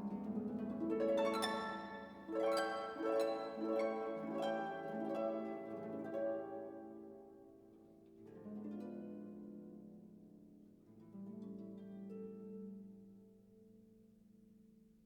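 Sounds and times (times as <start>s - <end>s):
plucked harp-like music: 0.0s - 14.0s.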